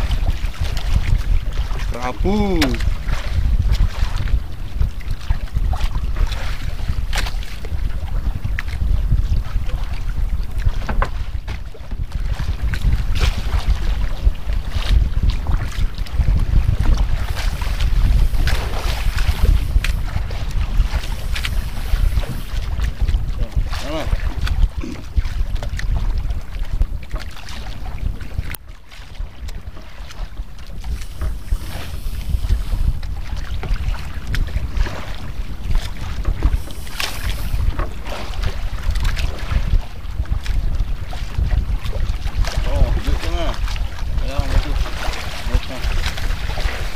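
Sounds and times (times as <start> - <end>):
waves splashing against boat hull: 0.0 - 46.9
wind buffeting microphone: 0.0 - 46.9.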